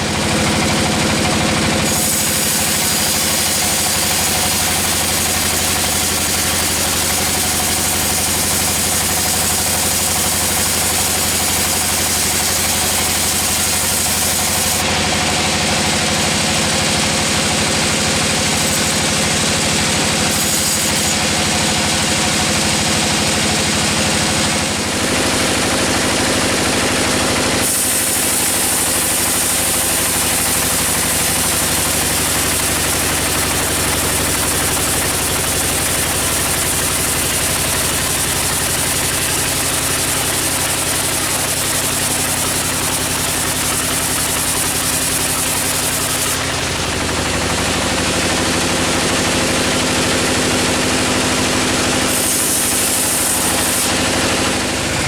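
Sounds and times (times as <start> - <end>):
saw cutting through log: 0.0 - 55.0
sawmill saw running: 0.0 - 55.0.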